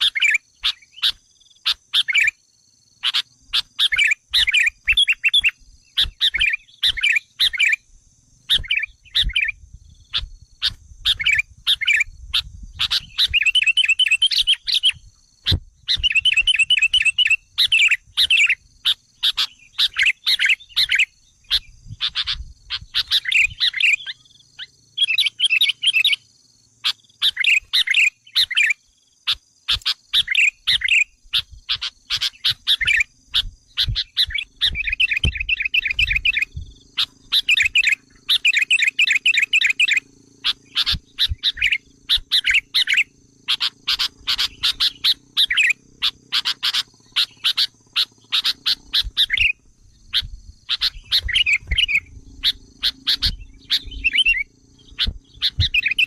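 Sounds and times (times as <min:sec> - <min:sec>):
birds chattering calls: 0:00.0 - 0:56.0
faint high insect buzz: 0:00.0 - 0:56.0.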